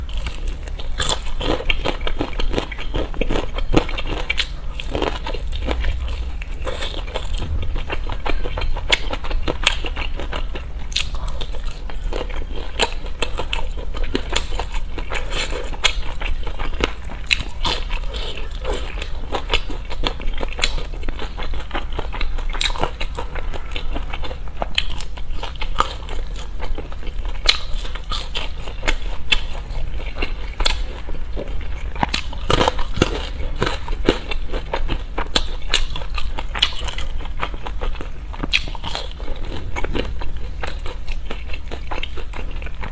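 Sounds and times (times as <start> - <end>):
crunchy food chewing: 0.0 - 42.9
low hum: 0.0 - 42.9.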